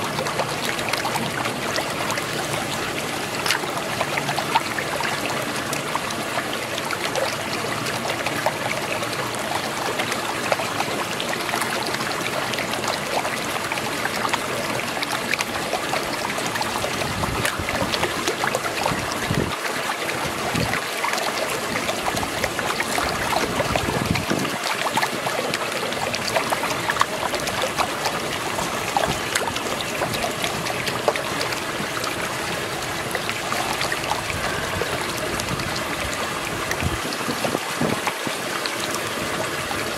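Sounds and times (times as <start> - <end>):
small clicks and splashes: 0.0 - 39.9
whirlpool water rushing gurgling: 0.0 - 39.9.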